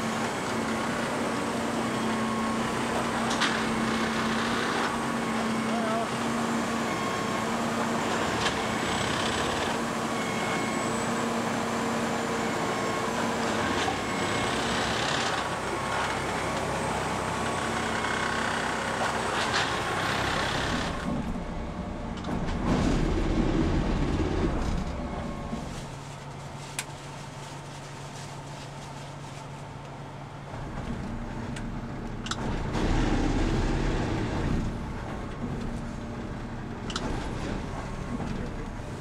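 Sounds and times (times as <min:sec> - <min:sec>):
machine engine and hydraulics whine: 0:00.0 - 0:26.6, 0:29.4 - 0:39.0.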